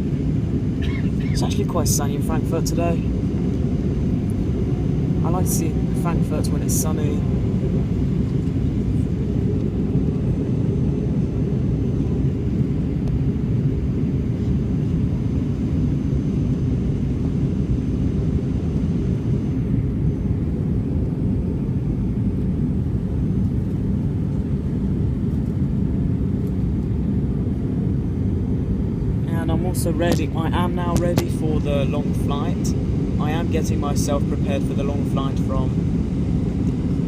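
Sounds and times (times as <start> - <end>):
aircraft cabin engine rumble: 0.0 - 37.0.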